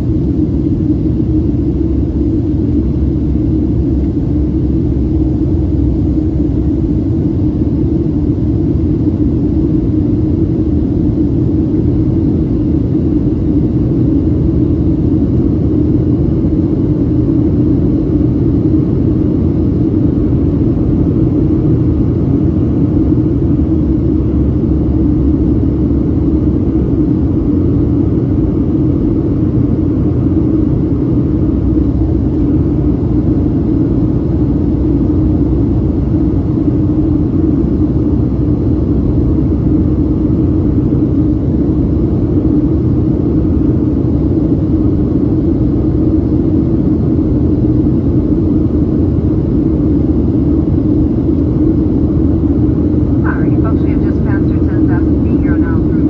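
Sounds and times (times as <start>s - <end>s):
airplane engine drone: 0.0s - 56.0s.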